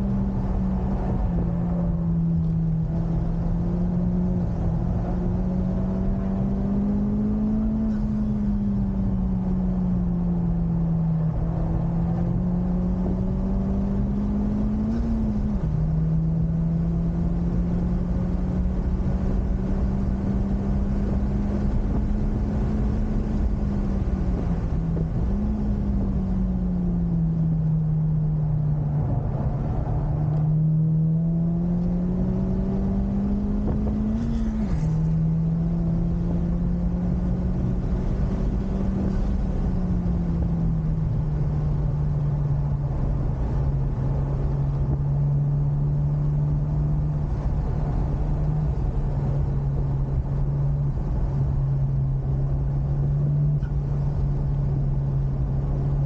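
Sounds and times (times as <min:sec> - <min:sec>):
car engine under load: 0:00.0 - 0:56.0
road and tyre noise: 0:00.0 - 0:56.0.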